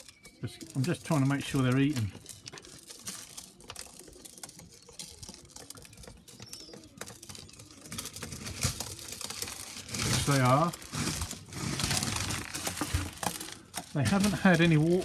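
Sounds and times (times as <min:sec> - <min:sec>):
loud rustling: 0:00.0 - 0:15.0
pigeons pecking at grain: 0:00.0 - 0:15.0.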